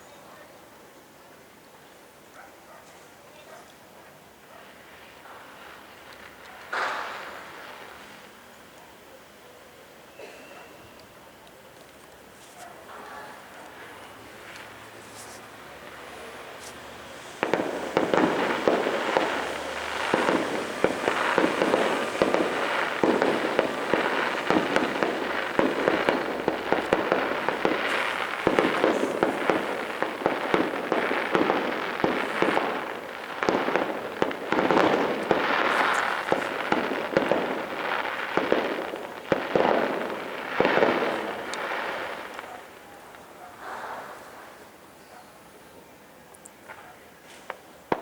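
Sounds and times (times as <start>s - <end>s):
fireworks crackling: 4.2s - 9.2s, 9.9s - 45.8s, 46.4s - 48.0s.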